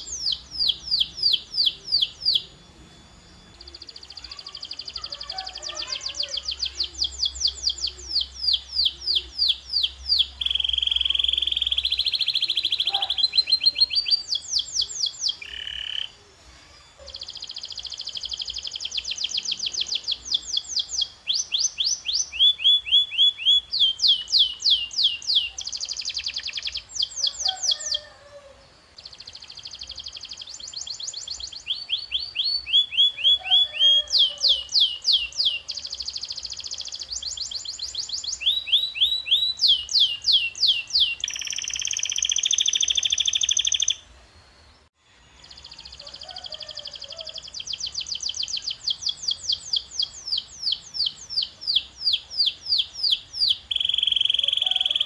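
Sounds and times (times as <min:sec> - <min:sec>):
canary singing: 0:00.0 - 0:44.1, 0:45.3 - 0:55.0.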